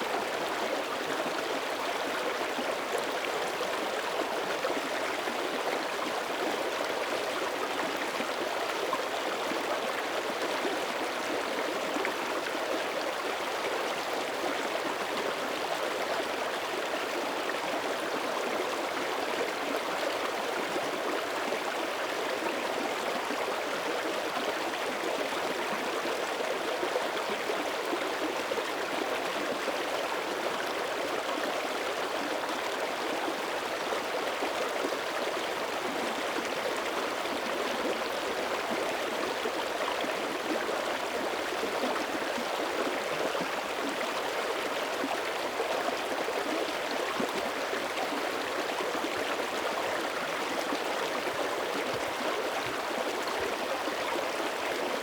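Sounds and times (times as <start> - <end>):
creek water over rocks: 0.0 - 55.0.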